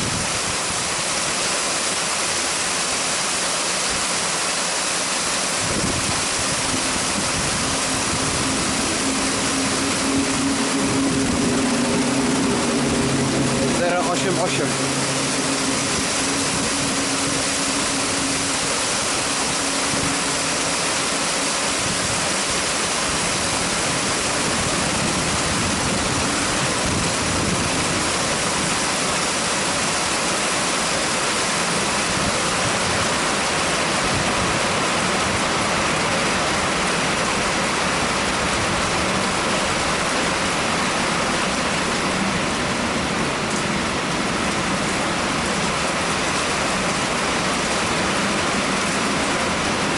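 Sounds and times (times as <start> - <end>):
heavy rain pouring: 0.0 - 49.9
low engine hum: 0.0 - 49.9.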